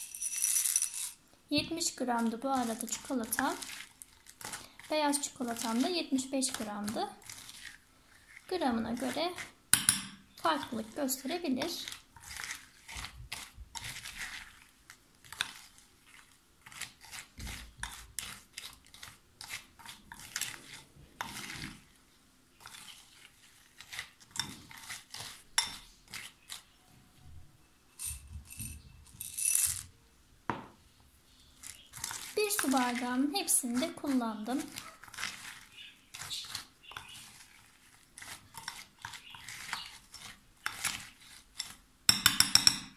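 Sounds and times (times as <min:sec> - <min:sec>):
metal spoon stirring in glass bowl: 0:00.0 - 0:22.0, 0:22.6 - 0:26.8, 0:27.9 - 0:29.9, 0:31.6 - 0:42.9.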